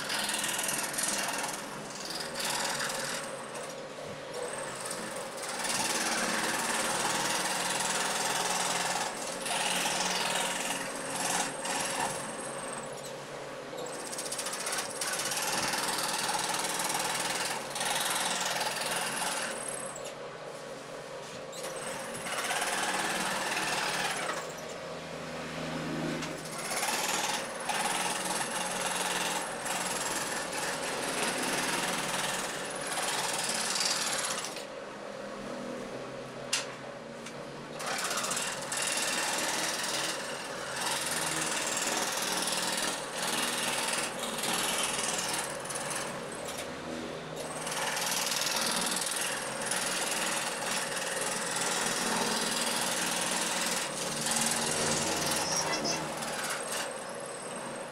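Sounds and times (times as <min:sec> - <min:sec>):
jigsaw cutting wood: 0:00.0 - 0:03.3, 0:04.4 - 0:12.4, 0:14.0 - 0:19.9, 0:21.7 - 0:24.5, 0:25.8 - 0:34.6, 0:37.8 - 0:57.8.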